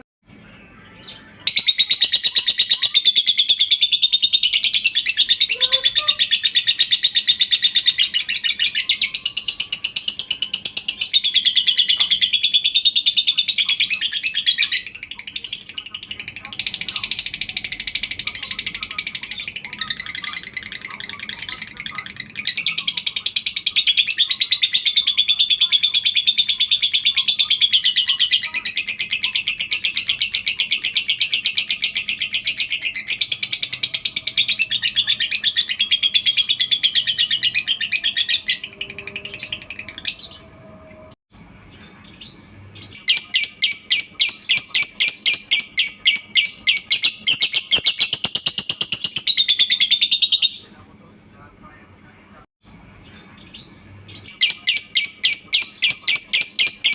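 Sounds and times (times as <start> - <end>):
lovebird chattering trill: 1.5 - 40.3, 42.9 - 50.6, 54.2 - 56.9.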